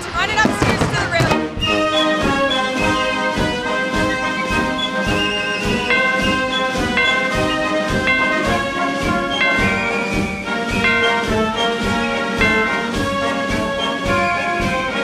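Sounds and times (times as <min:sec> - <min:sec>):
brass chords over a steady beat: 0:00.0 - 0:15.0.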